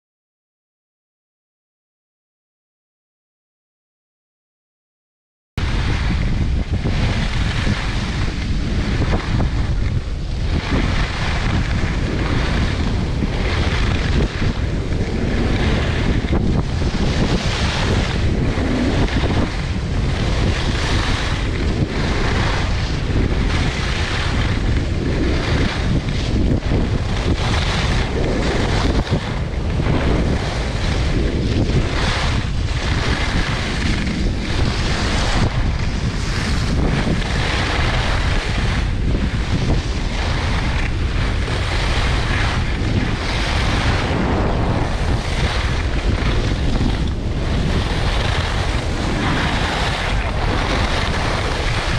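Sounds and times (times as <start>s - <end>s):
skis scraping on snow: 5.6s - 51.9s
wind buffeting microphone: 5.6s - 51.9s.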